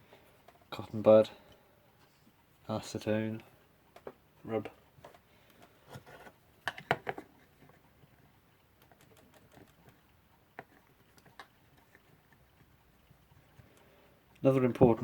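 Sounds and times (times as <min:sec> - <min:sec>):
small clicks and taps of clock parts: 0:01.4 - 0:05.8, 0:06.6 - 0:14.9.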